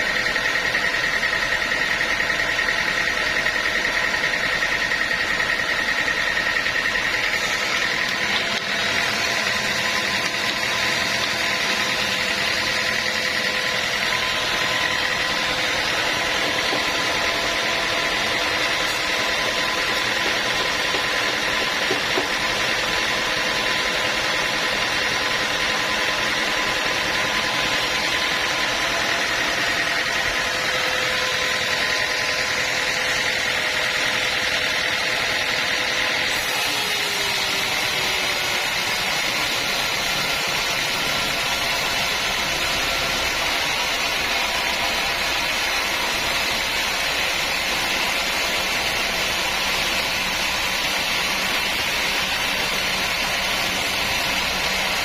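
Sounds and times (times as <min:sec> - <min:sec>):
sawmill machinery drone: 0:00.0 - 0:55.0
steady high whine: 0:00.0 - 0:55.0.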